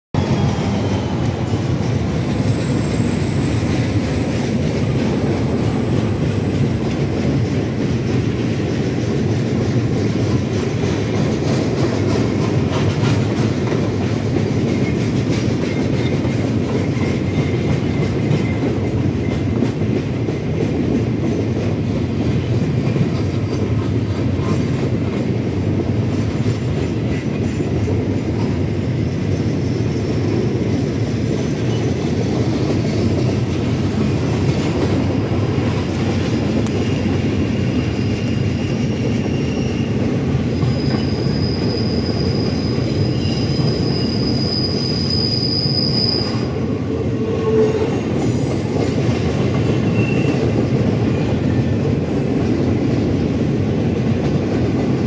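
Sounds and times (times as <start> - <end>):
freight train wheels rumbling on rail: 0.1 - 55.0.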